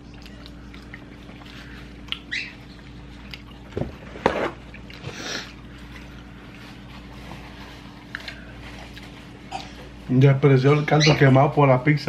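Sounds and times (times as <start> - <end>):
chewing and mouth noises: 0.0 - 10.0.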